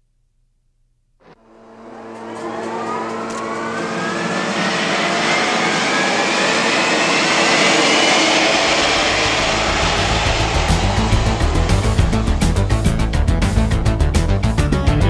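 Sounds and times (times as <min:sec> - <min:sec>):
rushing roar: 0:01.4 - 0:14.0
high whine rising in pitch: 0:01.4 - 0:14.2
gas-turbine engines spooling up: 0:01.4 - 0:14.3.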